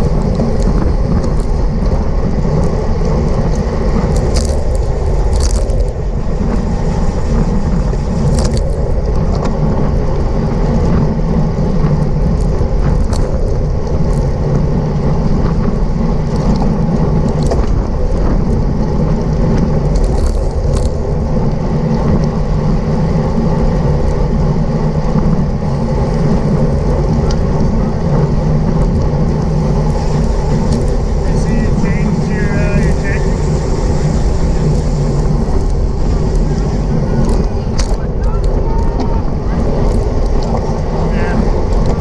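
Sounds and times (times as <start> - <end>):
tyres humming on road: 0.0 - 42.0
wind rushing over microphone: 0.0 - 42.0.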